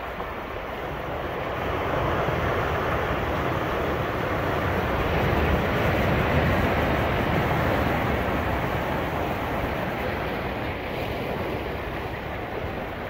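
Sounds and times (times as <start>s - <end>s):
ocean surf on a beach: 0.0s - 13.0s.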